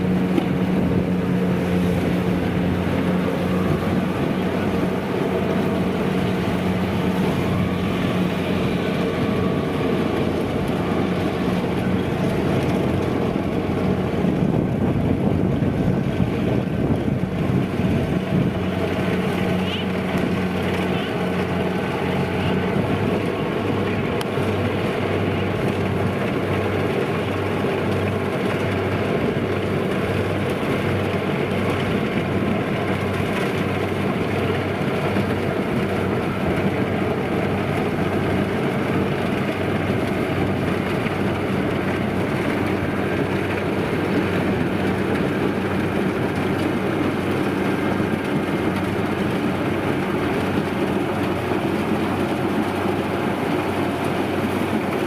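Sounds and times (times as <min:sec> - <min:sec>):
combine harvester diesel engine drone: 0:00.0 - 0:55.0.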